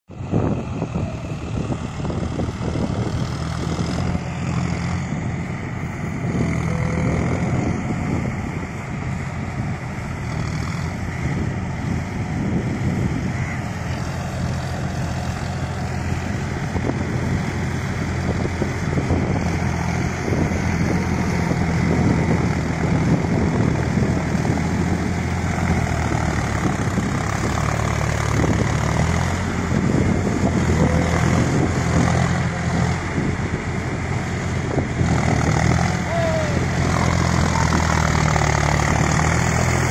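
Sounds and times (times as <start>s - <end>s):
tractor diesel engine under load: 0.1s - 39.9s.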